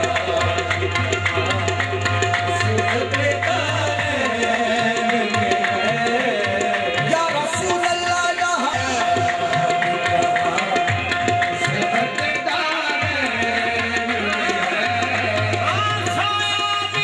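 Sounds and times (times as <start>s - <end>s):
tabla strokes: 0.0s - 17.0s.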